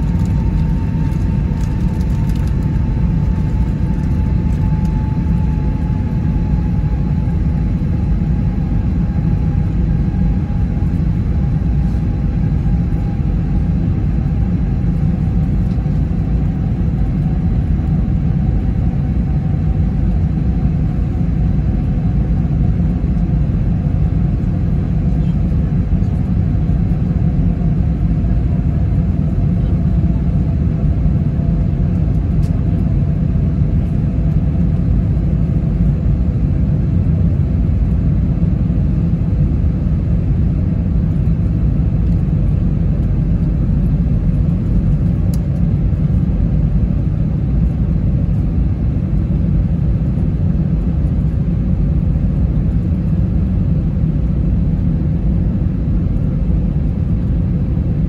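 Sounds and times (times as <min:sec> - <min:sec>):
airliner cabin engine rumble: 0:00.0 - 0:58.0
faint steady hum: 0:00.0 - 0:58.0.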